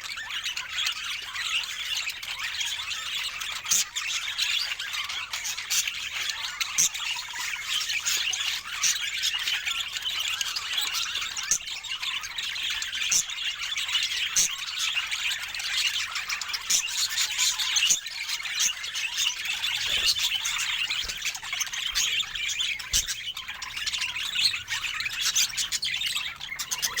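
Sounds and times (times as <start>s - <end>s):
budgerigars chattering: 0.1s - 27.0s.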